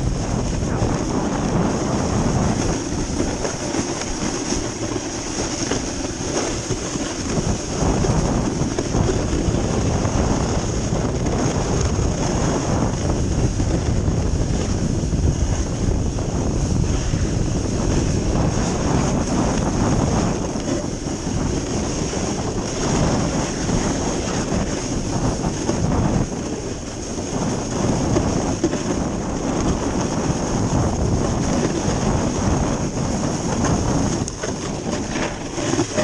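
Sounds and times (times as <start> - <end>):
snowboard scraping over snow: 0.0 - 36.0
wind rushing over microphone: 0.0 - 36.0.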